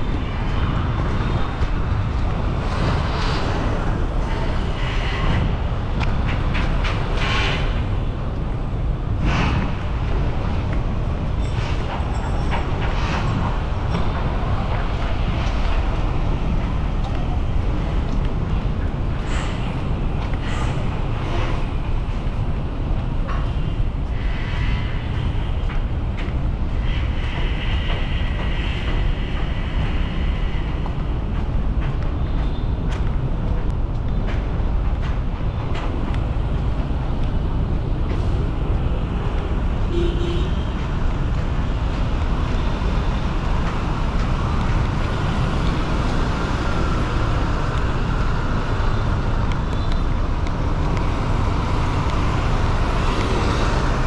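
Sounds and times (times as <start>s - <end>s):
passing vehicles rumbling: 0.0s - 54.0s.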